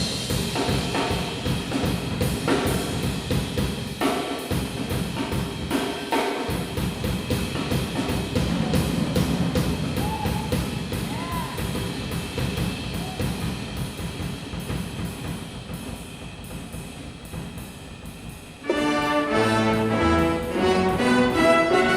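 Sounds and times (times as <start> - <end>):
jazz drum kit solo: 0.0 - 21.9.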